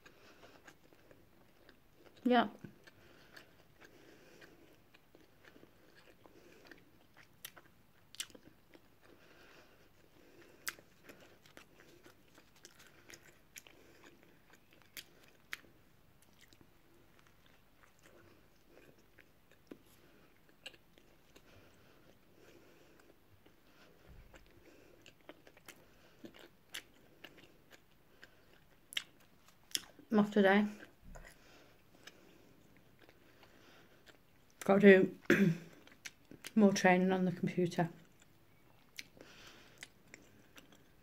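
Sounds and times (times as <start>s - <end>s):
person chewing: 0.0s - 30.1s, 30.8s - 34.7s, 35.6s - 36.6s, 38.0s - 41.0s.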